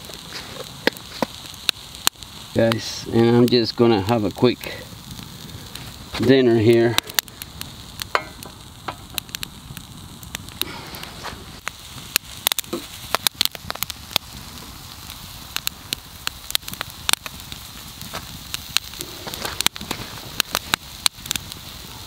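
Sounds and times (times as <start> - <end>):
food sizzling in a pan: 0.0 - 22.0
pops and crackles: 0.0 - 22.0.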